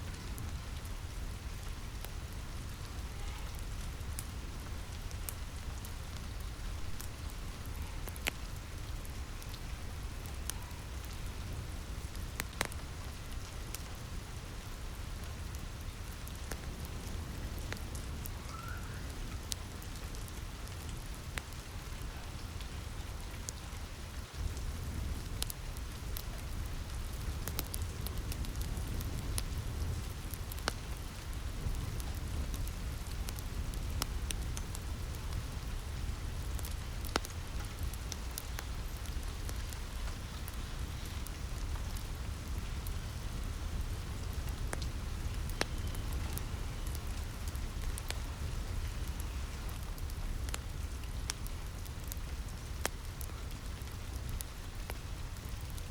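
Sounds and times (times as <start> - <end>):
rain on a roof: 0.0 - 55.9
wood fire crackling: 0.0 - 55.9.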